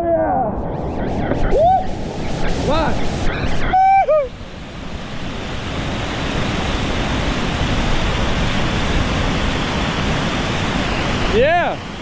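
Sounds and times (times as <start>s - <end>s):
whitewater rushing over waterfall: 1.5s - 12.0s.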